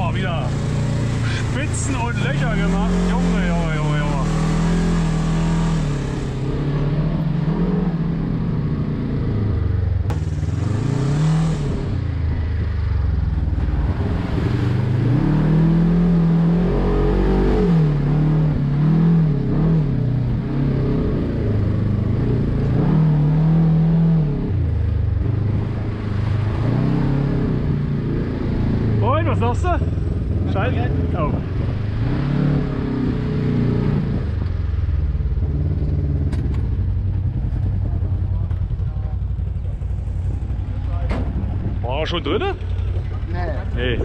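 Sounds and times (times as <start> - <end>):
buggy engine revving: 0.0 - 44.0.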